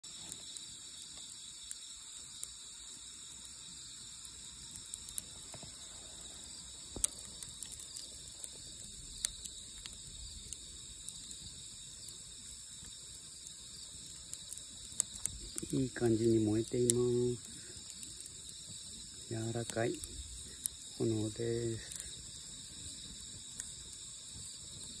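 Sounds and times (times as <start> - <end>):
campfire wood popping and crackling: 0.0 - 25.0
night insects chirring: 0.0 - 25.0.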